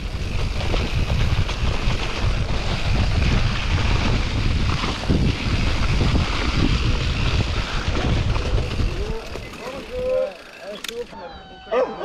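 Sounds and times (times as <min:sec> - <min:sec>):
bike knocking over rough ground: 0:00.0 - 0:11.1
wind buffeting microphone: 0:00.0 - 0:11.2
bike ride rumble: 0:00.0 - 0:12.0.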